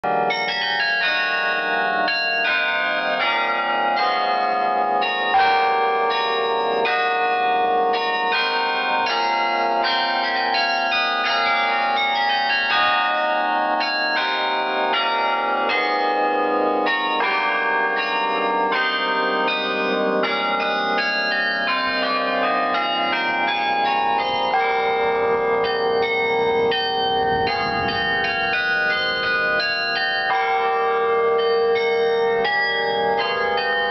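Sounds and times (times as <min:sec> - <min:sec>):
carillon bells melody: 0:00.0 - 0:33.9.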